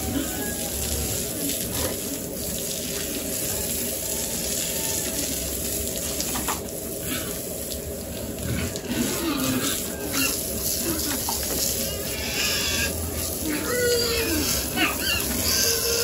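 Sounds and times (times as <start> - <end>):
water spraying from hose: 0.0 - 16.0.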